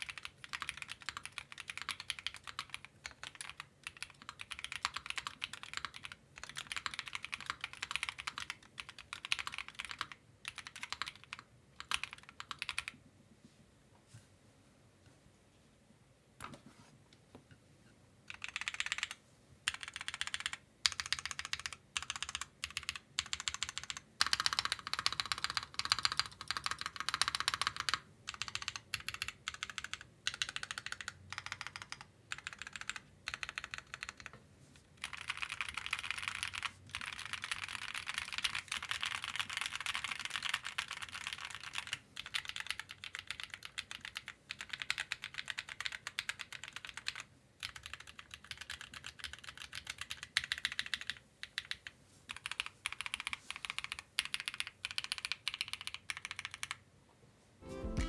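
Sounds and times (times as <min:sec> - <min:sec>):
mechanical keyboard typing: 0:00.0 - 0:13.0, 0:18.3 - 0:34.3, 0:35.0 - 0:56.8.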